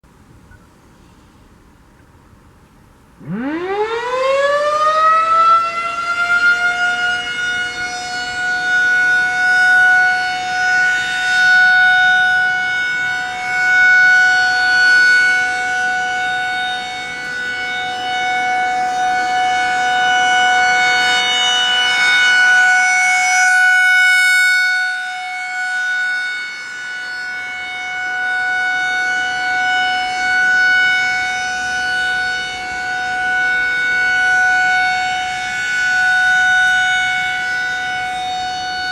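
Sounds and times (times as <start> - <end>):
outdoor warning siren: 2.9 - 38.9.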